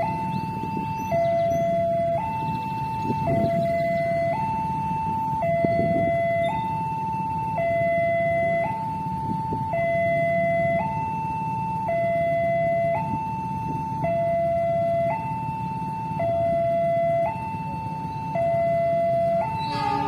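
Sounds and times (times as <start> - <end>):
level-crossing two-tone alarm: 0.0 - 20.0.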